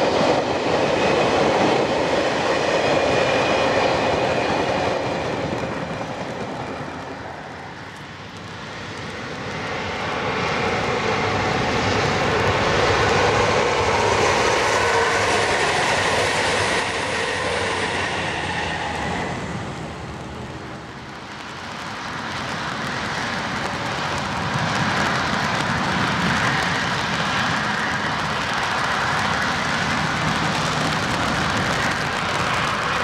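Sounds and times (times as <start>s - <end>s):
train passing rushing noise: 0.0s - 33.0s.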